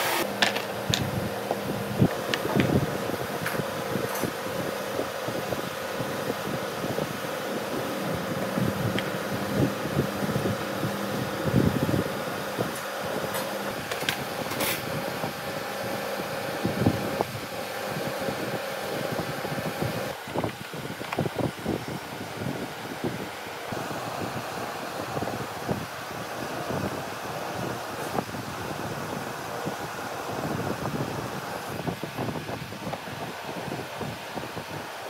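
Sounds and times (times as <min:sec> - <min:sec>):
mechanical fan hum: 0:00.0 - 0:35.0.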